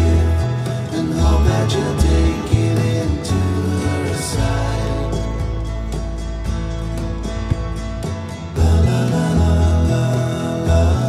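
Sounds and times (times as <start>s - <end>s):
heavy bass notes: 0.0s - 11.0s.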